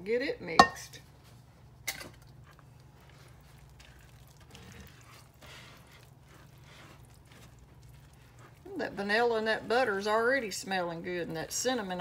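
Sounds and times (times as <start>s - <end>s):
wet squishing of batter stirred: 1.1s - 12.0s.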